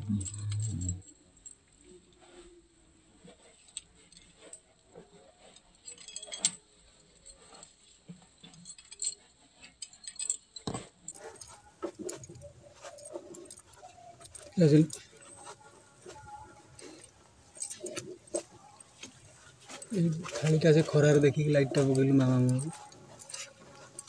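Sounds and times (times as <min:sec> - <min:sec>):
bangles clinking and jingling: 0:00.0 - 0:02.6, 0:03.3 - 0:24.0.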